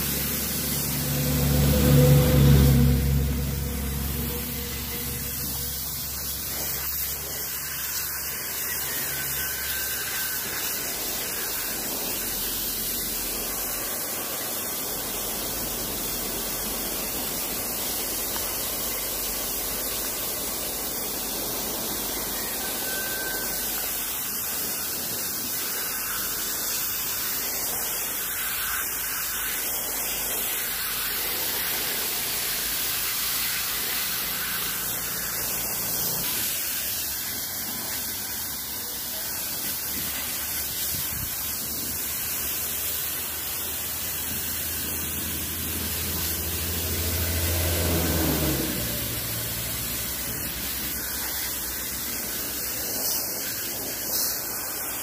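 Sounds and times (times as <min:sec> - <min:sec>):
hose water spraying on metal fins: 0:00.0 - 0:55.0.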